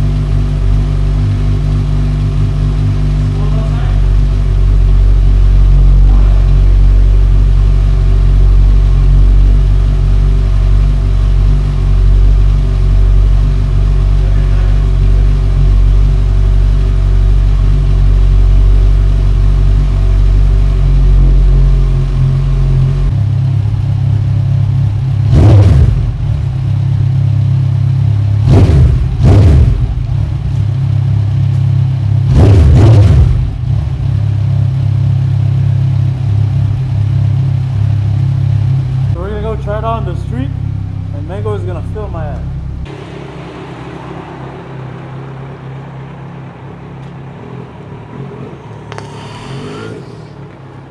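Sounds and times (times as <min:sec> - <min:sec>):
motorcycle engine idling: 0:00.0 - 0:25.3, 0:25.9 - 0:32.3, 0:33.3 - 0:50.9.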